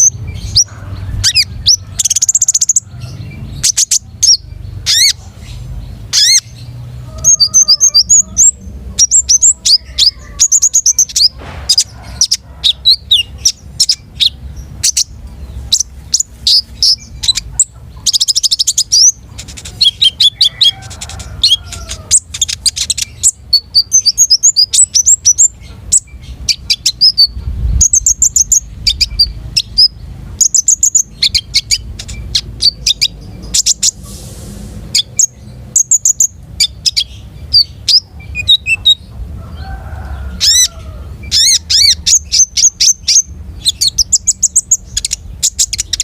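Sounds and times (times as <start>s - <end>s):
buzzy bird trill: 0.0s - 34.0s, 34.9s - 46.0s
songbird singing: 0.0s - 46.0s.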